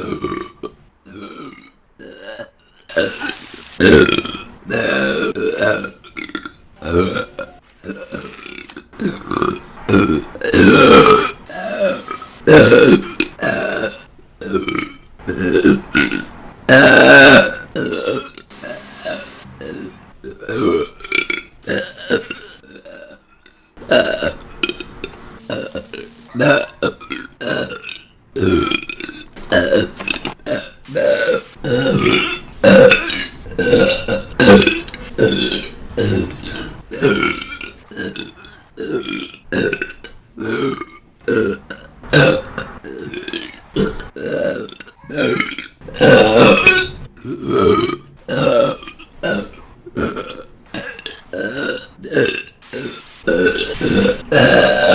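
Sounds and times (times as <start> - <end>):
woman burping: 0.0 - 54.9.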